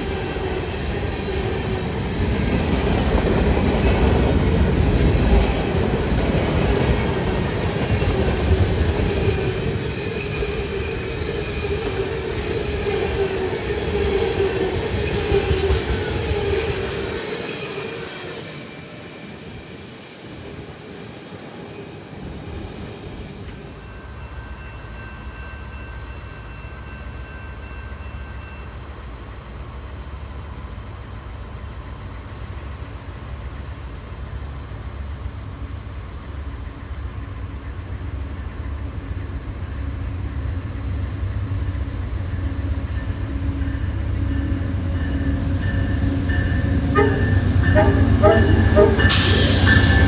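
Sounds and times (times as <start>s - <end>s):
train rumble: 0.0s - 50.0s.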